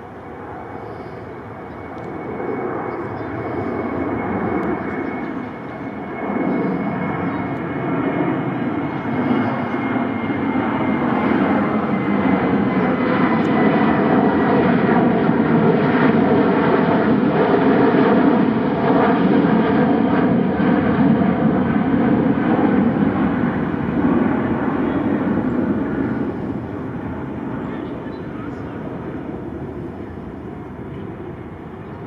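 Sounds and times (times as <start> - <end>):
airliner engines roaring: 0.0 - 32.0.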